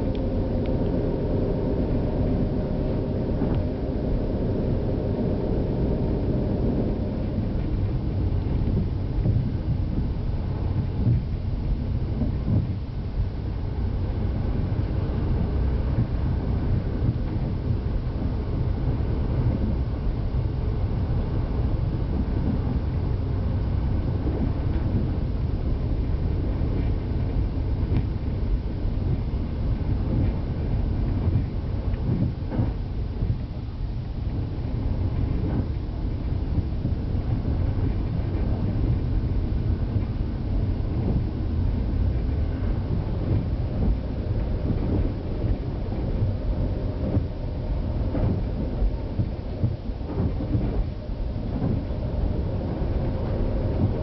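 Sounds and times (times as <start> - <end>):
diesel engine drone: 0.0 - 54.0
train wheels rumbling: 0.0 - 54.0.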